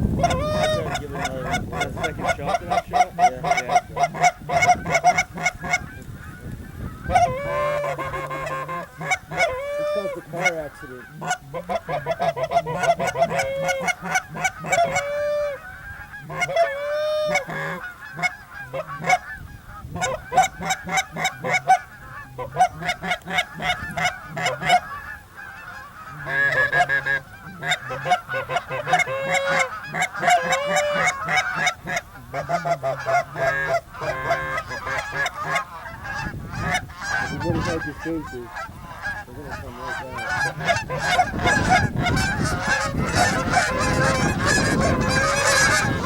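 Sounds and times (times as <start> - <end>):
goose honks and clucks: 0.0 - 46.0.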